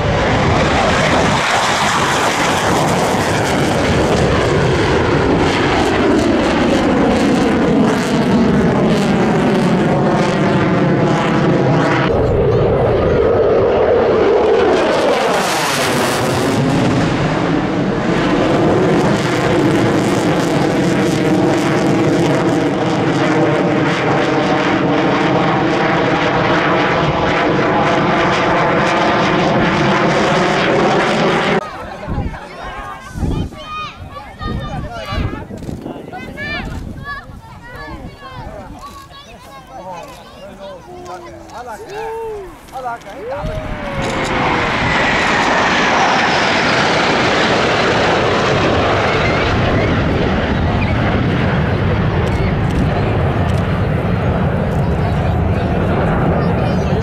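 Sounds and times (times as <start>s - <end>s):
jet fighters flying past: 0.0s - 57.0s.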